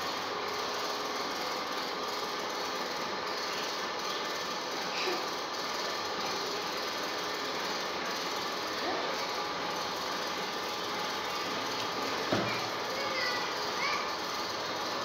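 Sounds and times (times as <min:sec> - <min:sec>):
steady mechanical noise: 0:00.0 - 0:15.0.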